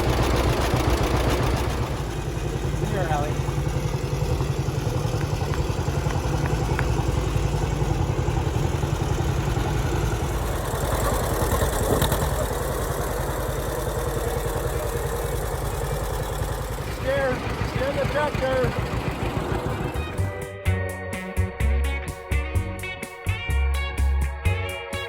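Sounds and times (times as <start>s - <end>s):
tractor engine running: 0.0s - 23.5s.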